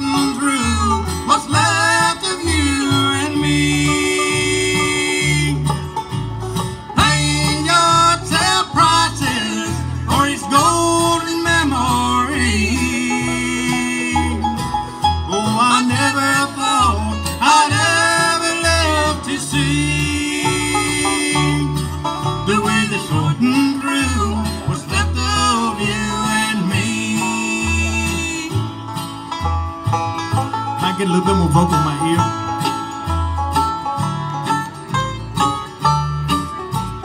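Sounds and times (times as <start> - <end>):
banjo: 0.0 - 37.0
bluegrass band playing: 0.0 - 37.0.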